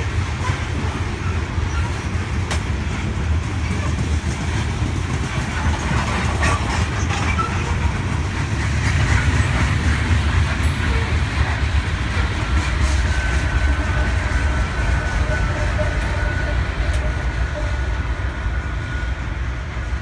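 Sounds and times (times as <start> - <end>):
freight train rumbling past: 0.0 - 20.0
train wheels clacking: 0.0 - 20.0.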